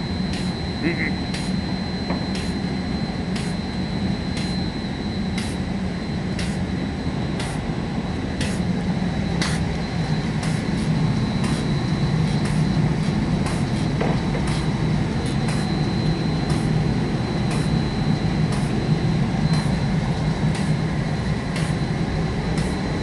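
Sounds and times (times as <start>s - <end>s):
roller coater low hum: 0.0s - 23.0s
thin high whine: 0.0s - 23.0s.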